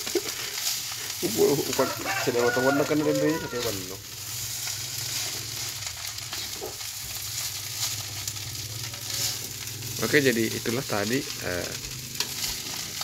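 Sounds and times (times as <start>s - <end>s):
rice sizzling in a wok: 0.0s - 13.0s
metal spatula scraping: 0.7s - 10.7s, 11.8s - 13.0s.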